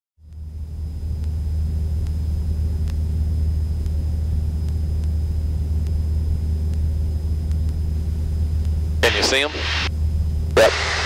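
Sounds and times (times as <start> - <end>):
aircraft engine droning: 0.3 - 11.0.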